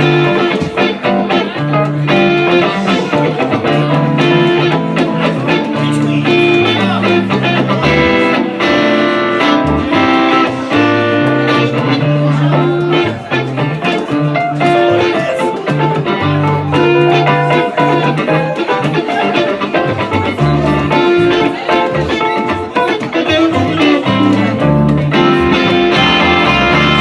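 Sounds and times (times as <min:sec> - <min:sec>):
live band instrumental: 0:00.0 - 0:27.0.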